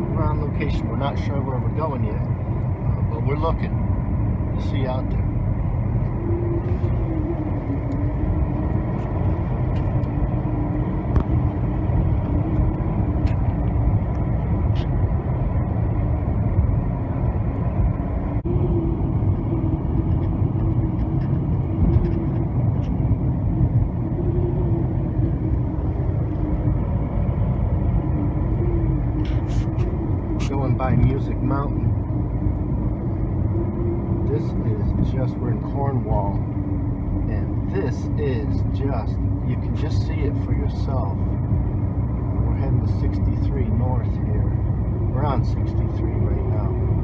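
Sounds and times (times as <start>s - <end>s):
engine and tyres rumble: 0.0s - 47.0s
faint wavering hum: 0.0s - 47.0s.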